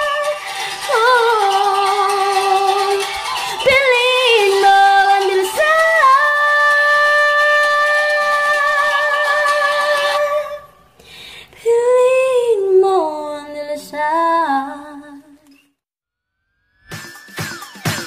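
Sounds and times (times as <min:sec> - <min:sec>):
woman singing: 0:00.0 - 0:10.8, 0:11.5 - 0:15.6.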